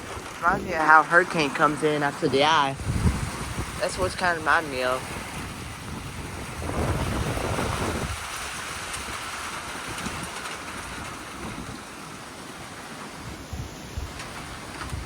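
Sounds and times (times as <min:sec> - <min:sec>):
storm wind rushing through trees: 0:00.0 - 0:15.0
wind buffeting microphone: 0:00.0 - 0:15.0.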